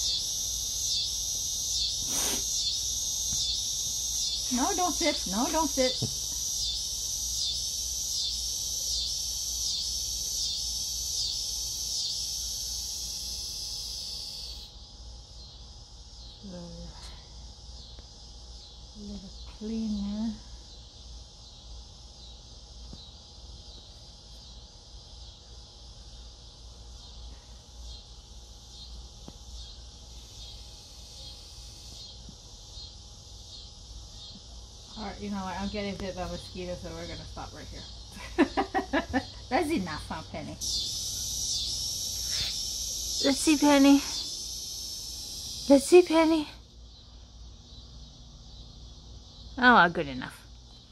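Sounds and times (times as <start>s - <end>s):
insects buzzing: 0.0s - 50.9s.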